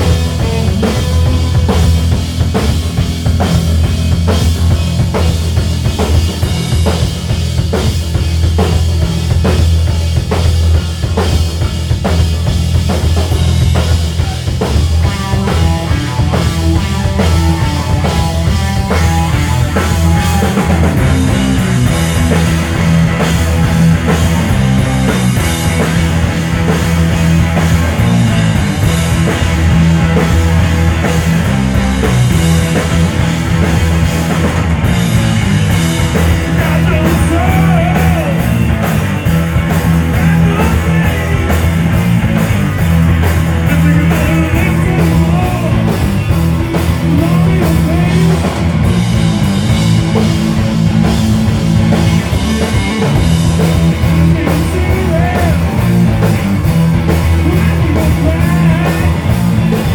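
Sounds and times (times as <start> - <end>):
bass guitar: 0.0 - 59.9
drum kit beat: 0.0 - 59.9
electric guitars: 0.0 - 59.9.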